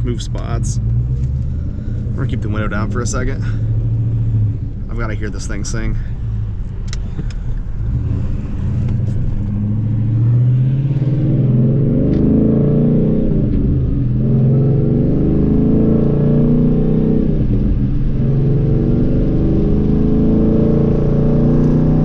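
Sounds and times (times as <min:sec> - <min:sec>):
loud car exhaust engine note: 0:00.0 - 0:22.0.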